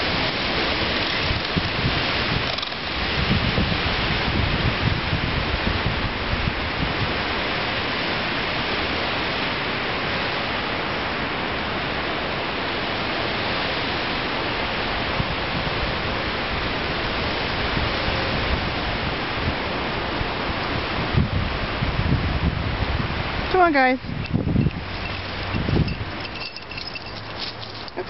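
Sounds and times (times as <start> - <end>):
wind through pine trees: 0.0 - 28.0.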